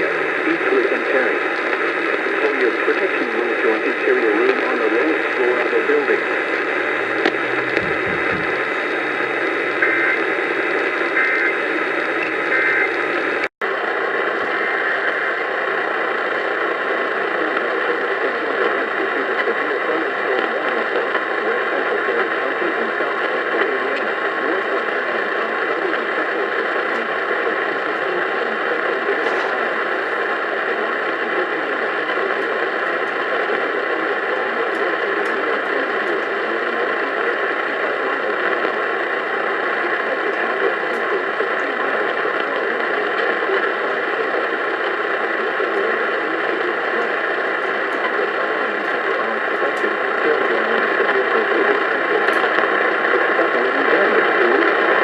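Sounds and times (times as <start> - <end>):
radio static hiss: 0.0 - 55.0.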